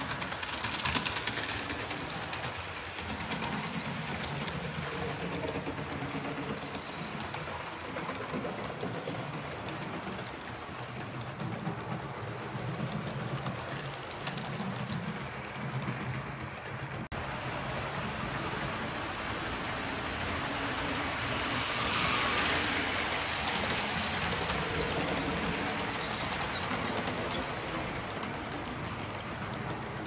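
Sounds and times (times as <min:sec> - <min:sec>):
model train cars rattling on track: 0:00.0 - 0:30.0.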